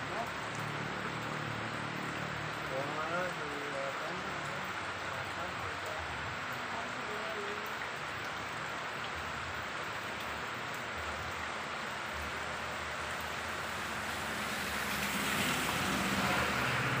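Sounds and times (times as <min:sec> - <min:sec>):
rain falling on plants: 0:00.0 - 0:17.0.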